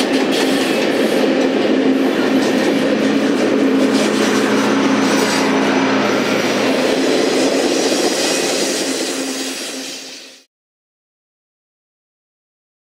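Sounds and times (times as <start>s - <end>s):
train wheels rumbling on rails: 0.0s - 10.5s.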